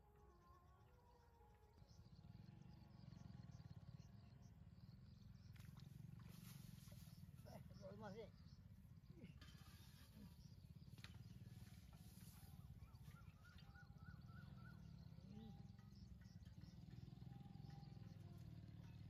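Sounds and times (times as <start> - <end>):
bird chirping: 1.7 - 19.0.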